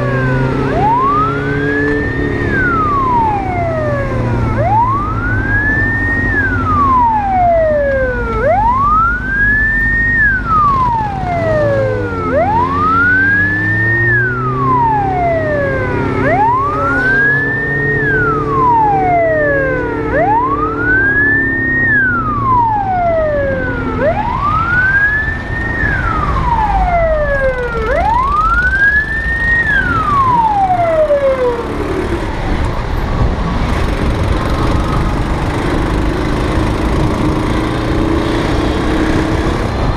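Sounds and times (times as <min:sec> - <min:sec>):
emergency siren wailing: 0:00.0 - 0:39.9.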